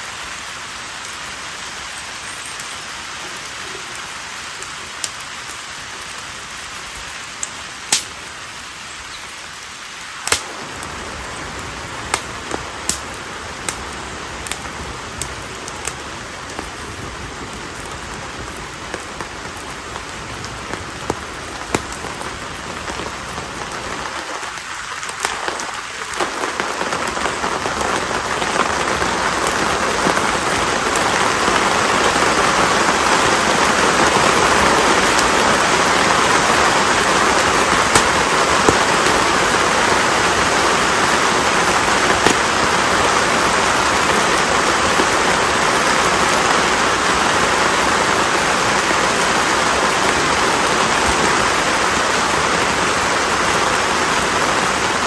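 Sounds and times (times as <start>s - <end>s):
fire crackles and pops: 0.0s - 55.0s
hiss of flames: 0.0s - 55.0s.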